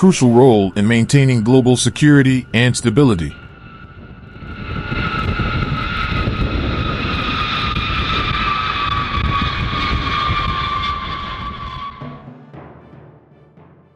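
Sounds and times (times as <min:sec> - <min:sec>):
jet engines roaring past: 0:00.0 - 0:12.2.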